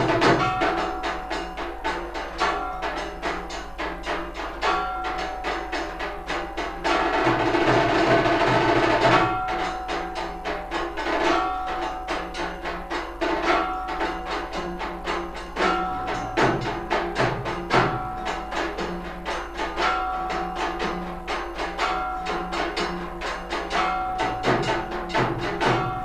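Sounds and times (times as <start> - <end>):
drums beating fast: 0.0 - 26.0
sustained ringing tones: 0.0 - 26.0.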